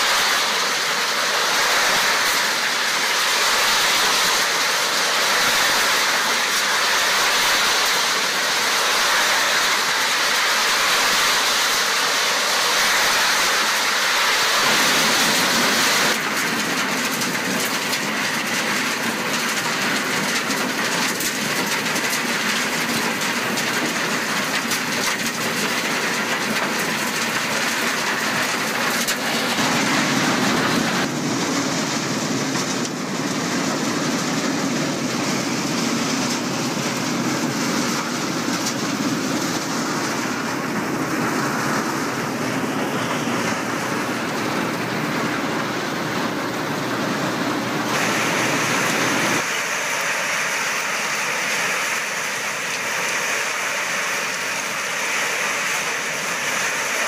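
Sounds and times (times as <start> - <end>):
soil and stones rattling in drum: 0.0 - 57.0.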